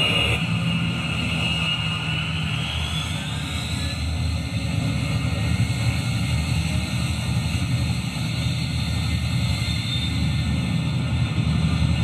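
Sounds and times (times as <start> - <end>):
jet engine rumbling with hiss: 0.0 - 12.0.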